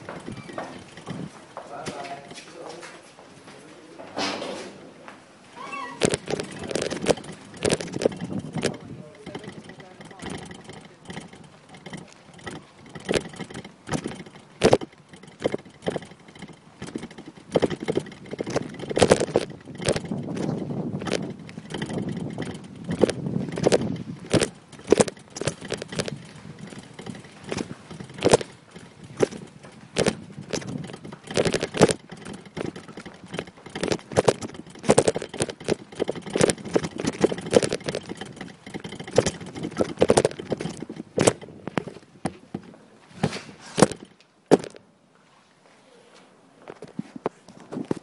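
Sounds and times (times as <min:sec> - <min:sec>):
irregular knocks and clatter: 0:00.0 - 0:02.9, 0:06.0 - 0:44.9.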